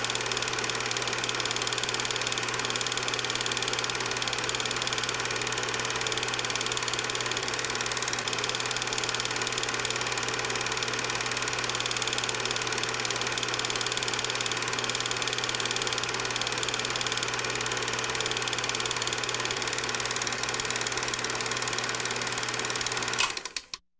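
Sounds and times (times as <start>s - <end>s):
film projector running: 0.0s - 23.8s.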